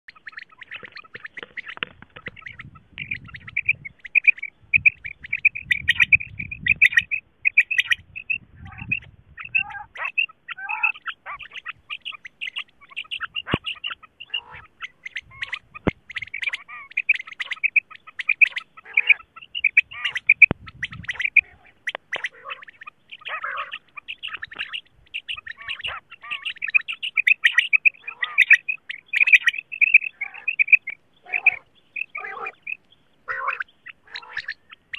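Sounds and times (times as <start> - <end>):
quail calling: 0.1 - 34.9.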